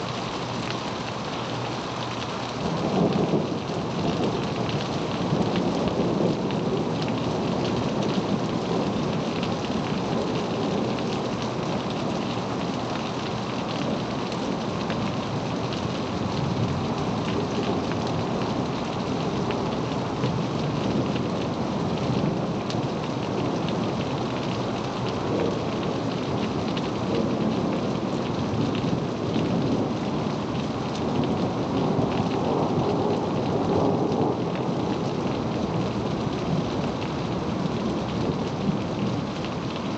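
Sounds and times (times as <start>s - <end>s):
rain pouring: 0.0s - 39.9s.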